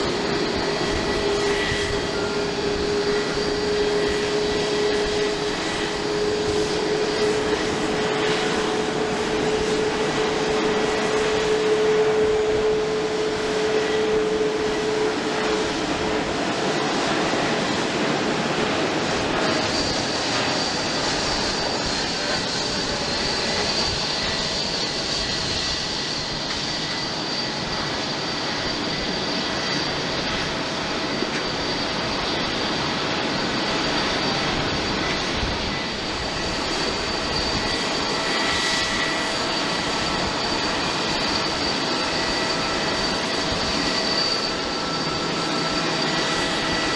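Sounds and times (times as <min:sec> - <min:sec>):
high engine whine: 0:00.0 - 0:46.9
jet engine noise: 0:00.0 - 0:46.9.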